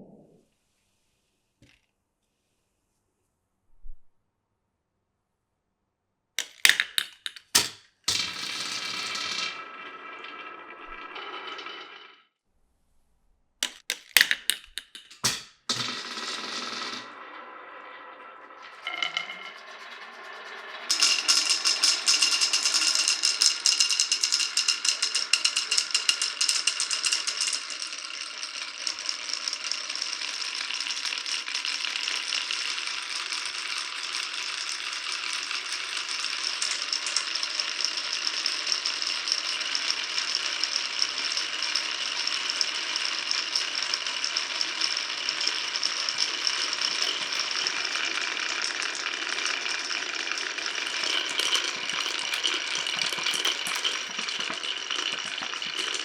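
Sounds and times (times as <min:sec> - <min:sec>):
marbles rolling and clattering: 0:06.4 - 0:12.2, 0:13.6 - 0:56.0.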